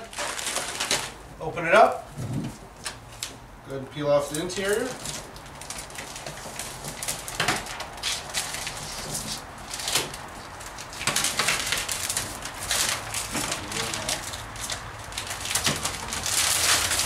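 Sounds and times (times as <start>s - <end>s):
protective paper peeling off: 0.0s - 1.2s, 4.2s - 17.0s.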